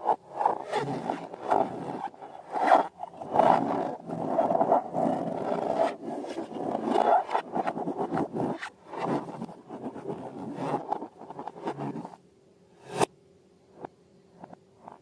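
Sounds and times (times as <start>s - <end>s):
rubbing and scraping balloons: 0.0s - 12.2s.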